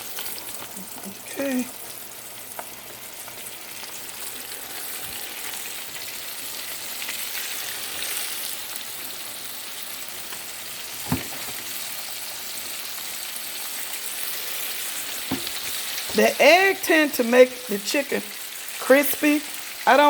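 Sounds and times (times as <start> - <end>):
chicken wings sizzling in skillet: 0.0 - 20.0.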